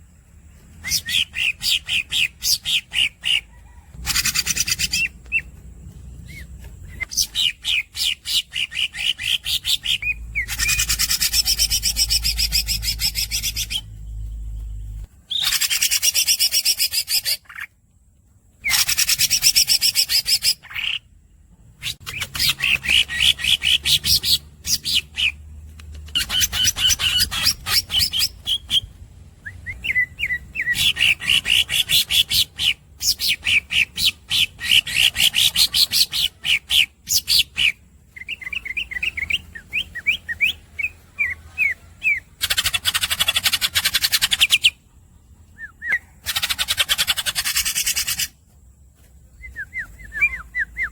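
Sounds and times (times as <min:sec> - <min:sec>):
bird singing rapid high chirps: 0:00.0 - 0:17.7, 0:18.6 - 0:44.9, 0:45.5 - 0:48.4, 0:49.3 - 0:50.9.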